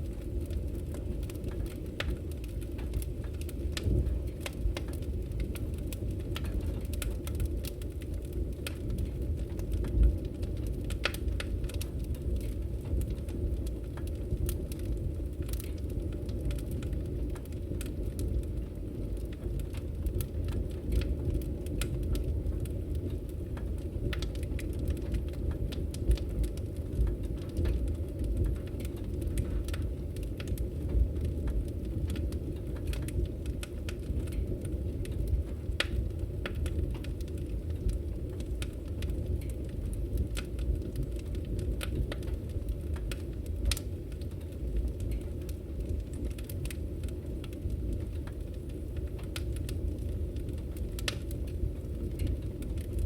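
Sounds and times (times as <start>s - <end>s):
fire low rumble: 0.0s - 53.0s
firewood crackling and popping: 0.0s - 53.0s.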